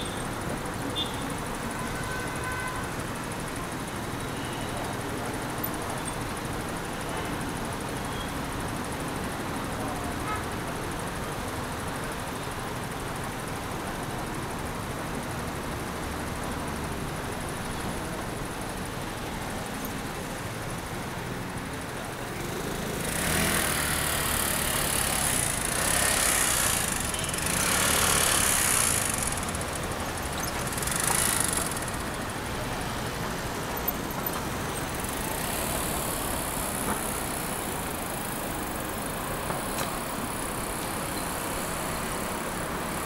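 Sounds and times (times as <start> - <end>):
background traffic noise: 0.0 - 43.0
vehicles passing close: 0.0 - 43.0.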